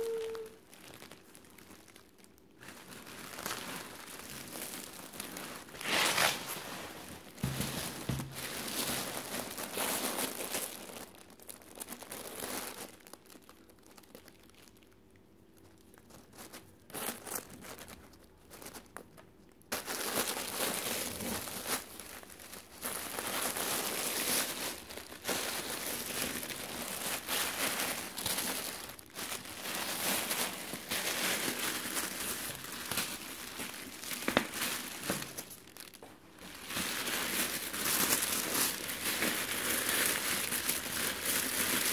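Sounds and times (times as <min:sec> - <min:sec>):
plastic wrapping crinkling: 0:00.0 - 0:41.9.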